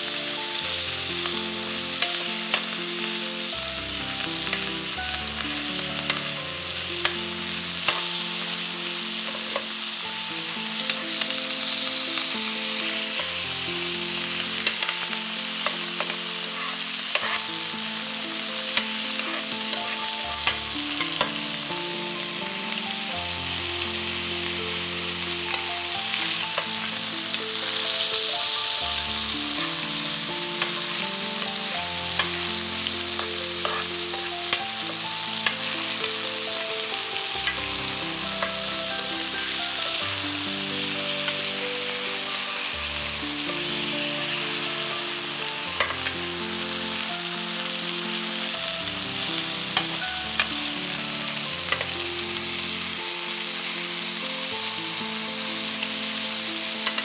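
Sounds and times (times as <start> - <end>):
chicken sizzling in a frying pan: 0.0 - 57.0.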